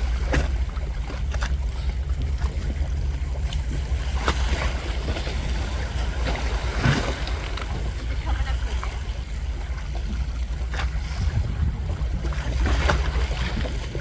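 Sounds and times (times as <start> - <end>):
sea waves washing against rocks: 0.0 - 14.0
wind buffeting microphone: 0.0 - 14.0.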